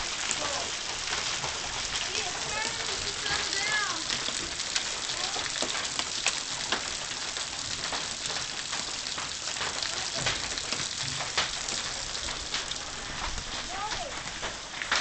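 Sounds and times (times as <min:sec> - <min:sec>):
hailstones striking hard surfaces: 0:00.0 - 0:15.0
heavy rain hissing: 0:00.0 - 0:15.0.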